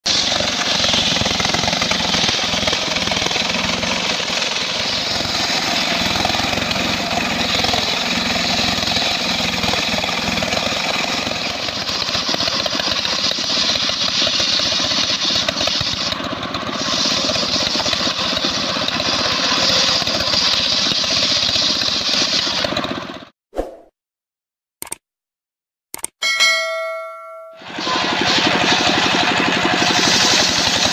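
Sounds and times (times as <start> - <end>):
circular saw cutting log: 0.0 - 22.8, 27.7 - 30.9.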